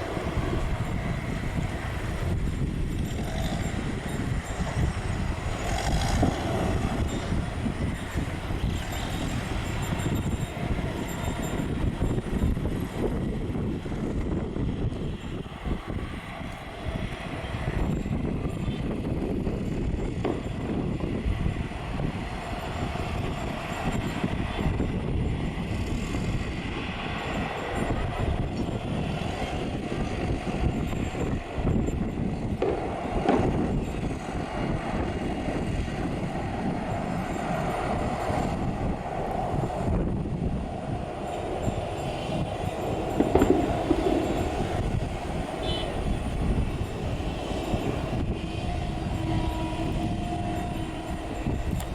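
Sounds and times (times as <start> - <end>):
jet engines rumbling: 0.0 - 51.9.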